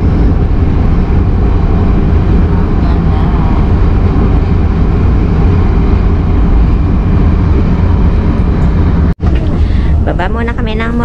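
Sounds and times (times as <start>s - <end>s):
high-speed train rumbling: 0.0s - 11.0s.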